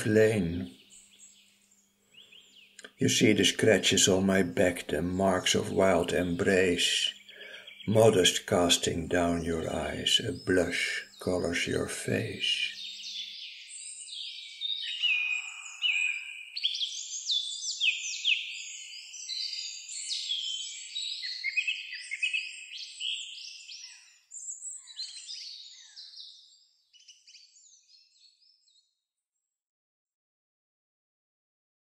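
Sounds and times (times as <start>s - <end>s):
songbirds chirping and trilling: 0.0s - 29.5s.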